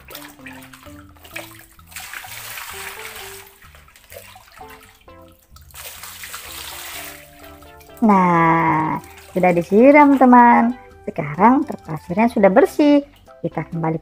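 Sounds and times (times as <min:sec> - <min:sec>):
water splashing onto plastic toy: 0:00.0 - 0:12.1
light background music: 0:00.0 - 0:14.0.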